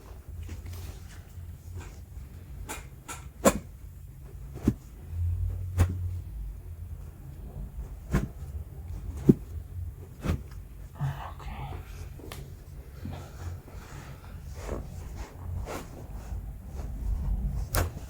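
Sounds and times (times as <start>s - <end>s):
low shuffling rumble: 0.0s - 18.0s.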